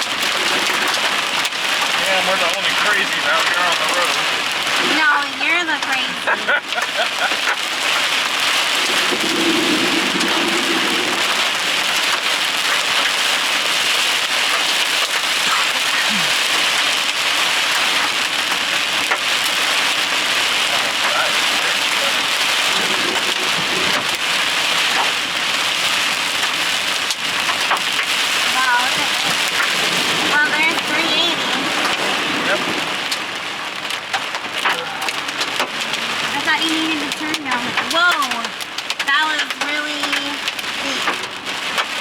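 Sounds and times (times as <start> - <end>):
heavy rain on car roof: 0.0 - 42.0.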